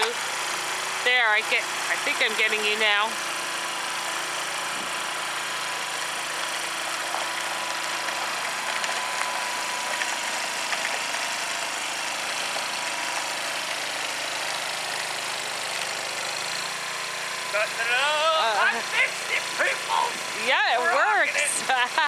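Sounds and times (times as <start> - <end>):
snowblower engine running: 0.0 - 22.0.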